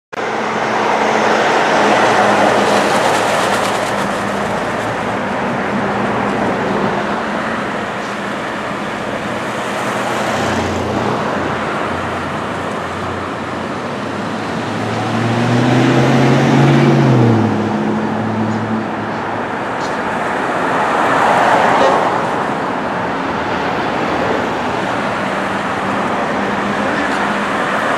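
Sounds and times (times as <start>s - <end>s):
street traffic passing: 0.1s - 27.9s.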